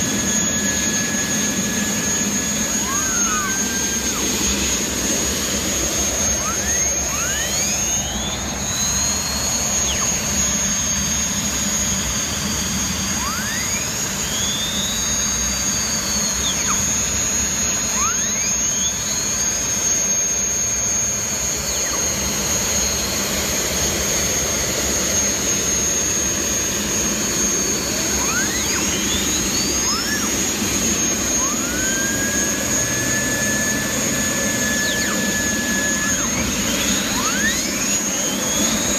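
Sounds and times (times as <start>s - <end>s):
turbine engines whining: 0.0s - 38.9s.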